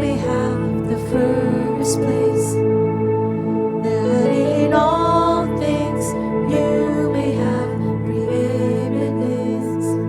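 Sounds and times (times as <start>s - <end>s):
worship band sustained chords: 0.0s - 10.0s.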